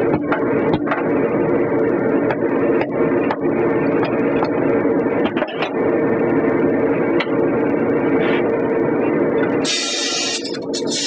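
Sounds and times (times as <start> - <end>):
machine droning hum: 0.0 - 11.0.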